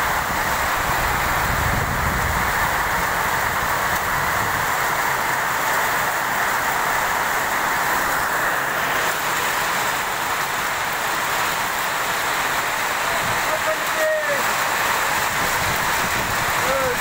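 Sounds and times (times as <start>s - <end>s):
rain on a metal roof: 0.0s - 17.0s.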